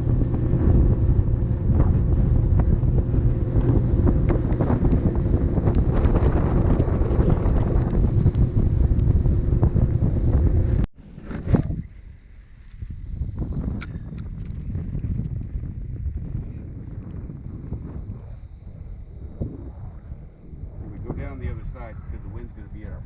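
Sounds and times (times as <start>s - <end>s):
steady low hum: 0.0s - 23.0s
wind buffeting microphone: 0.0s - 23.0s.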